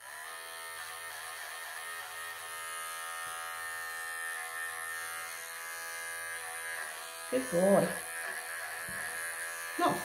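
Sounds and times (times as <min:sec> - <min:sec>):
pet clippers buzzing: 0:00.0 - 0:10.0.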